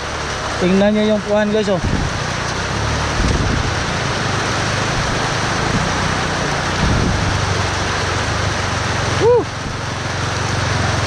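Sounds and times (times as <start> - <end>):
storm rain: 0.0 - 11.0
wind: 0.0 - 11.0.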